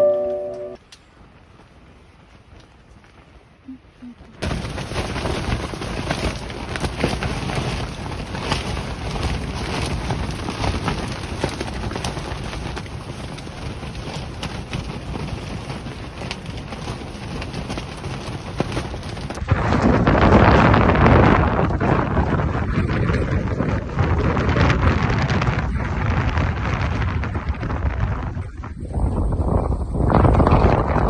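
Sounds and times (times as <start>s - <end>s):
wind buffeting microphone: 1.1s - 31.0s.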